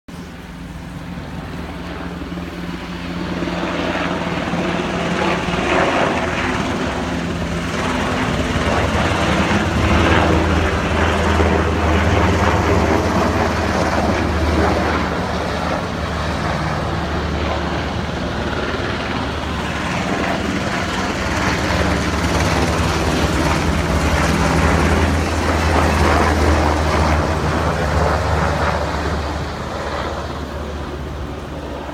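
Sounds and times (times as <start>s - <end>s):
helicopter rotor and engine drone: 0.1s - 31.9s.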